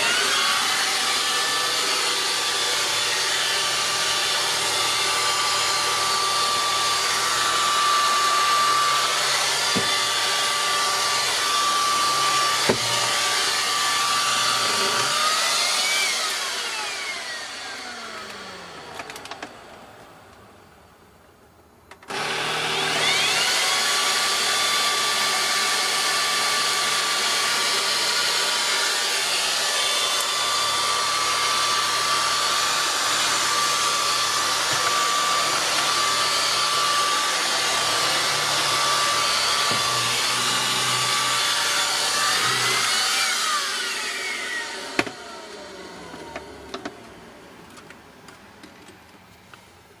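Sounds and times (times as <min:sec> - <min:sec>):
vacuum cleaner motor whine: 0:00.0 - 0:20.8, 0:21.9 - 0:49.6.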